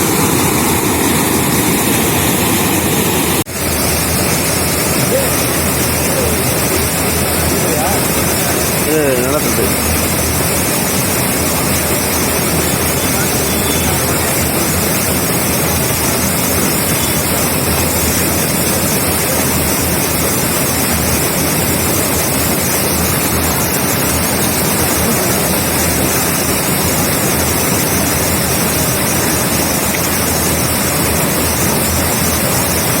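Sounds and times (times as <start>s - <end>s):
water rushing over a dam: 0.0s - 33.0s.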